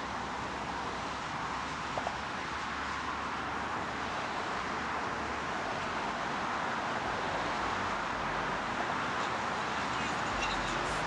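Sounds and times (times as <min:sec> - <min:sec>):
rushing noise inside vehicle: 0:00.0 - 0:11.0.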